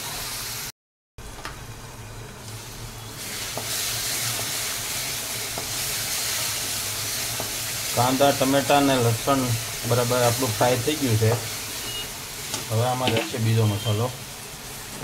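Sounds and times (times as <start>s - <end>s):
food sizzling in oil: 0.0s - 0.7s, 1.8s - 15.0s.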